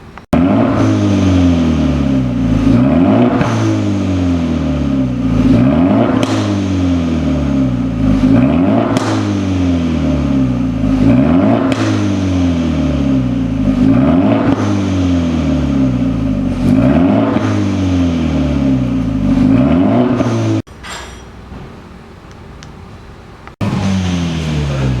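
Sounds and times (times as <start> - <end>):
car engine revving: 0.2 - 20.7, 23.5 - 25.0.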